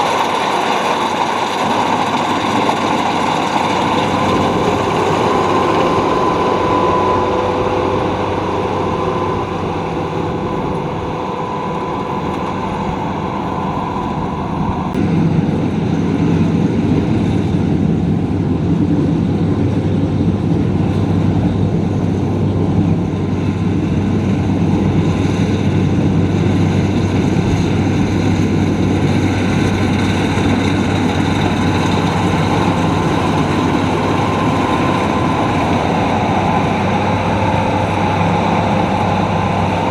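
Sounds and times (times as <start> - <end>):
thin mechanical whine: 0.0 - 17.6, 19.3 - 39.9
combine harvester engine running: 0.0 - 39.9.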